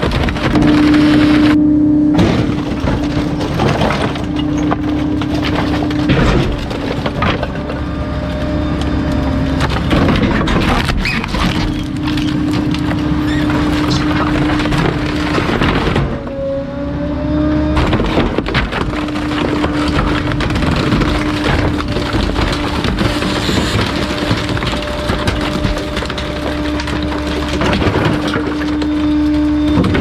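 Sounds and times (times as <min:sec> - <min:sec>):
junk cracking and splintering: 0:00.0 - 0:01.6, 0:02.2 - 0:16.4, 0:17.7 - 0:30.0
hydraulic compactor humming: 0:00.0 - 0:16.8, 0:17.5 - 0:30.0.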